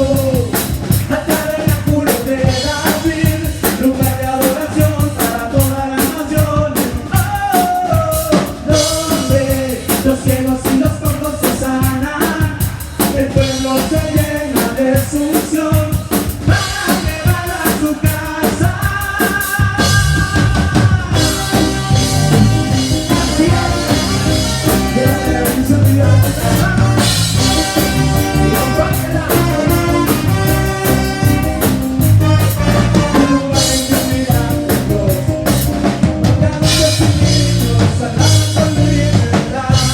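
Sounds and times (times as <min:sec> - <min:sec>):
drum kit beat: 0:00.0 - 0:39.9
live band music: 0:00.0 - 0:39.9.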